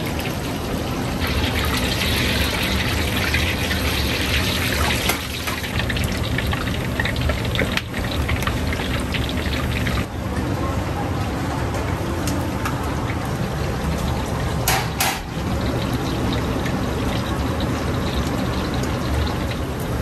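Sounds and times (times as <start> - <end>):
hot oil sizzling and crackling: 0.0 - 10.1, 13.2 - 20.0.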